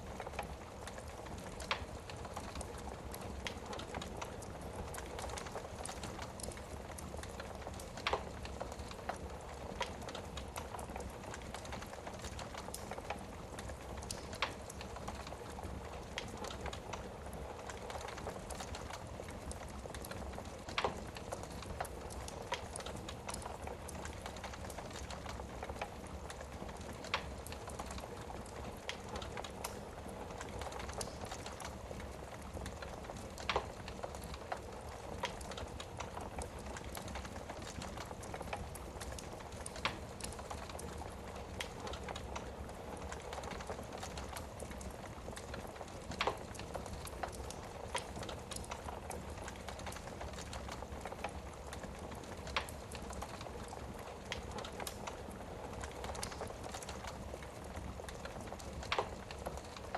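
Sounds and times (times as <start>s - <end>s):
wood fire crackling: 0.0s - 59.9s
fire popping: 0.1s - 59.9s.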